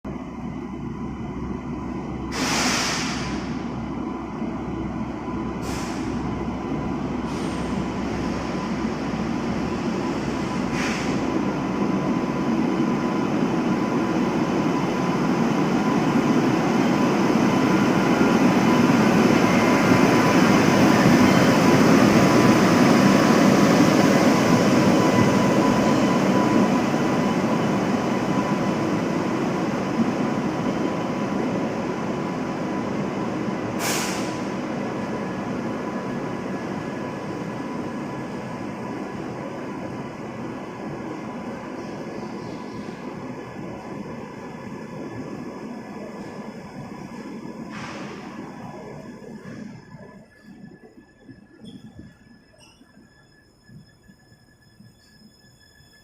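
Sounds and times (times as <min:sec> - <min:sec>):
train rolling rumble: 0:00.1 - 0:56.0.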